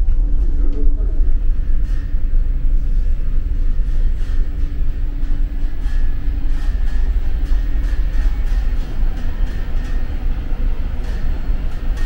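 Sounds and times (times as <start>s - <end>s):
ship engines rumbling: 0.6s - 12.0s.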